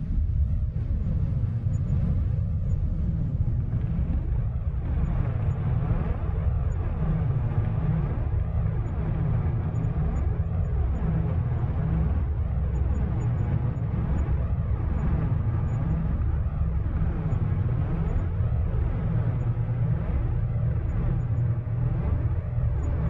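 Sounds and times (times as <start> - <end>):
deep low rumble: 0.0 - 23.0
sweeping phasing hum: 0.0 - 23.0.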